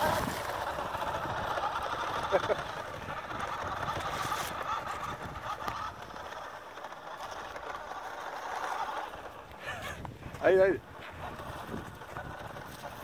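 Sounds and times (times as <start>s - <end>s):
toy car motor whirring: 0.0s - 13.0s.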